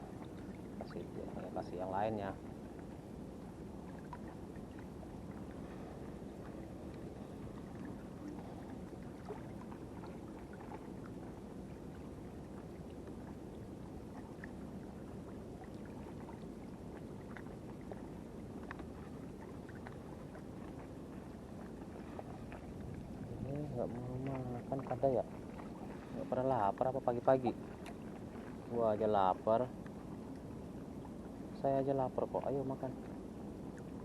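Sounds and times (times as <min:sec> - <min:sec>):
sea water washing at shore: 0:00.0 - 0:34.0.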